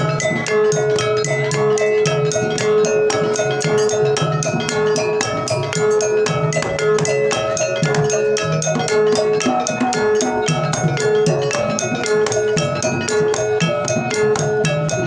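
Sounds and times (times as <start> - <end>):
hand drums playing fast strokes: 0.0 - 15.0
ringing metallophone notes: 0.0 - 15.0.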